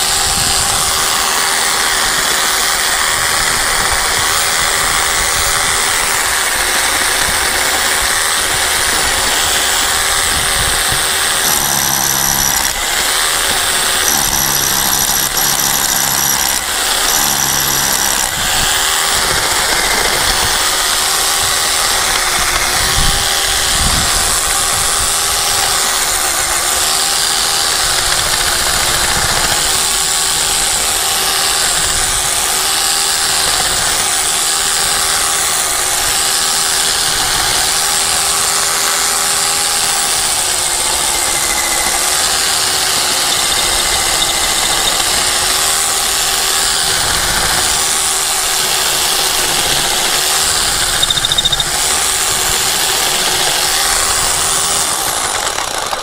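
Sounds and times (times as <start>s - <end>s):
mechanical engine drone: 0.0s - 56.0s.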